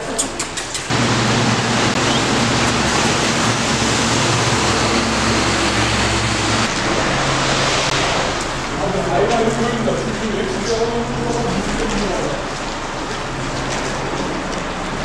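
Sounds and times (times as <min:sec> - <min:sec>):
road traffic rushing: 0:00.0 - 0:15.0
low engine hum: 0:00.9 - 0:15.0.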